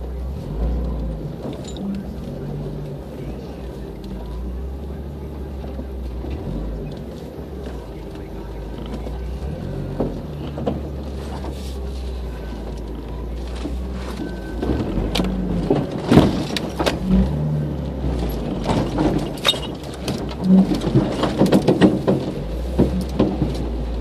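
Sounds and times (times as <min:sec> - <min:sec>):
engine running at low revs: 0:00.0 - 0:24.0
vehicle knocks and clunks: 0:00.0 - 0:24.0.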